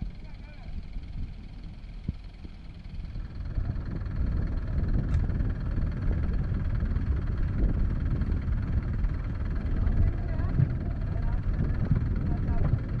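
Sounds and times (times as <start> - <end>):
tractor diesel engine rumble: 0.0 - 13.0.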